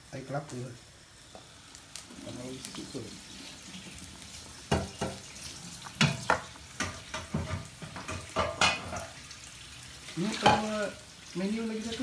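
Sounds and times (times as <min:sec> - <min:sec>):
faint simmering: 0:00.0 - 0:12.0.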